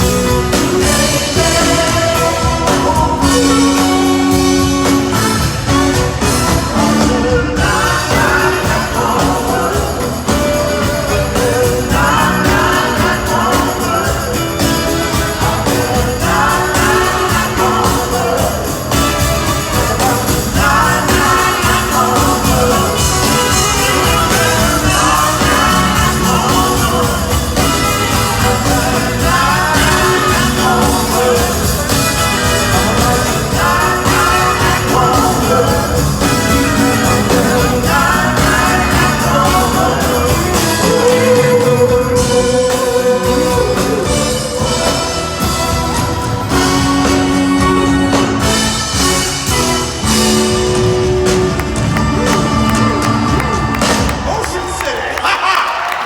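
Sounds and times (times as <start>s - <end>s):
live band playing: 0.0s - 56.0s
person singing lead vocal: 0.0s - 56.0s.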